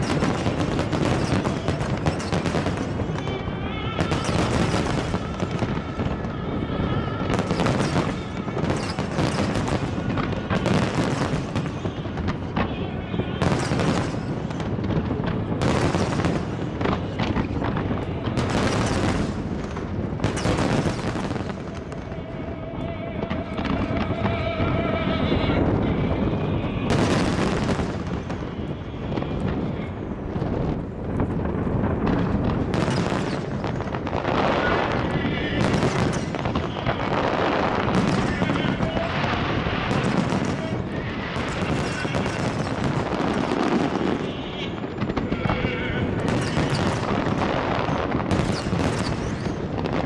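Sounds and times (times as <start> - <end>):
fireworks booming and crackling: 0.0 - 50.0.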